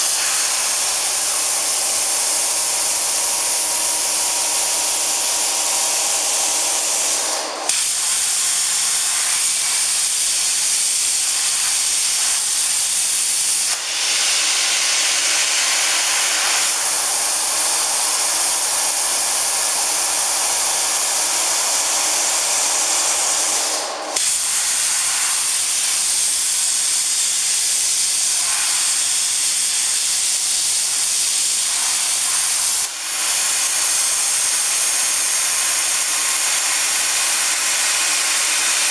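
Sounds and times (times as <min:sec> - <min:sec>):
cutting torch hissing: 0:00.0 - 0:38.9.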